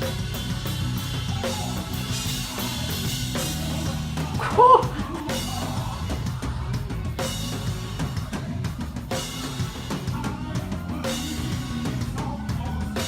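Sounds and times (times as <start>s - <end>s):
bass line: 0.0s - 13.0s
drum kit played hard: 0.0s - 13.0s.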